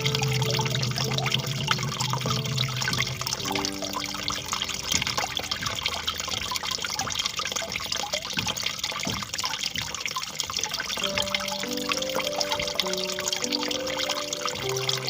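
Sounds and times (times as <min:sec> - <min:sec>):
small splashes and drips: 0:00.0 - 0:15.0
water trickling and babbling: 0:00.0 - 0:15.0.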